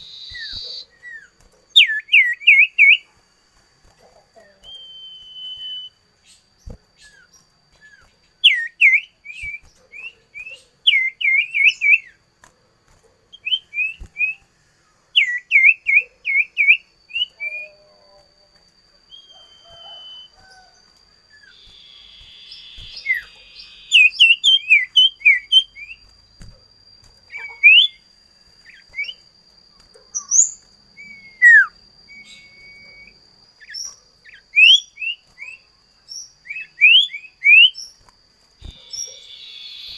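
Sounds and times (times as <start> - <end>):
songbird chirping: 0.0 - 3.2, 3.8 - 39.9
faint high-pitched whine: 0.0 - 39.9.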